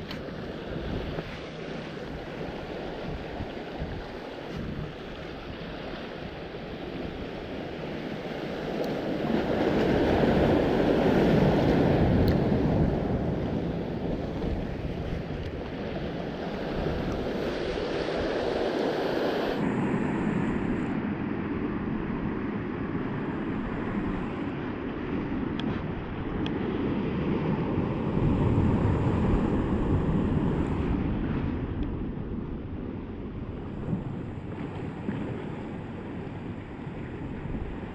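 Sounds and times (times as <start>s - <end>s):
ocean surf washing ashore: 0.0s - 37.9s
wind rumbling on microphone: 0.0s - 37.9s.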